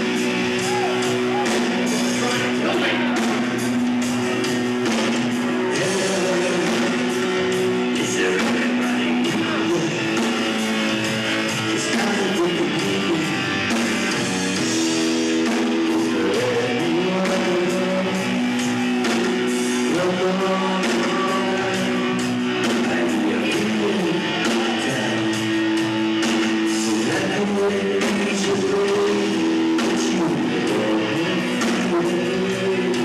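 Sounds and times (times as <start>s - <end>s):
person singing: 0.0s - 3.7s, 5.0s - 33.0s
guitar chords: 0.0s - 33.0s.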